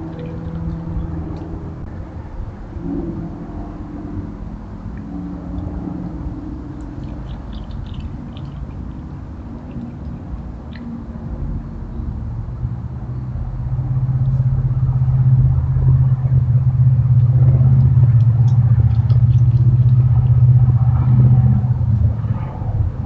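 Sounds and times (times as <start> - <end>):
machine rumbling: 0.0 - 23.0.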